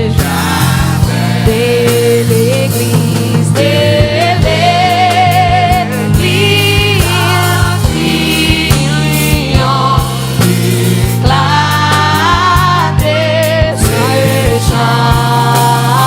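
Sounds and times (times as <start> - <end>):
bass notes: 0.0 - 16.0
drum hits: 0.0 - 16.0
group singing a slow hymn: 0.0 - 16.0.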